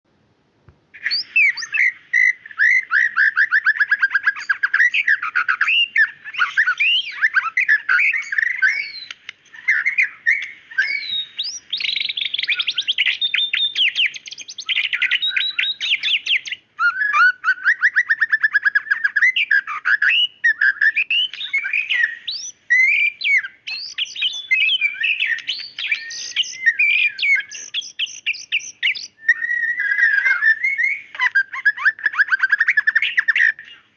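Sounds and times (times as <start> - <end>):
bird singing trills and whistles: 1.0 - 33.9.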